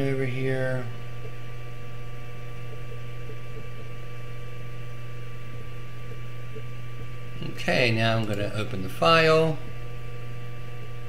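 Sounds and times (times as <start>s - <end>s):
low electrical hum: 0.0s - 11.0s
thin high whine: 0.0s - 11.0s.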